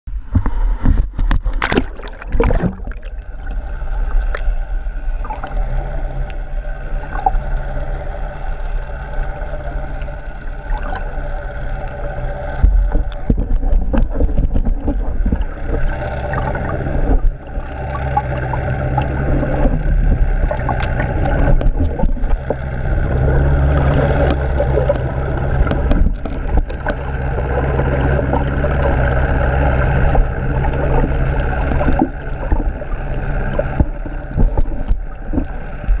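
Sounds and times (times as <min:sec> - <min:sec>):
underwater rumble and hum: 0:00.0 - 0:36.0
gurgling water: 0:00.1 - 0:36.0.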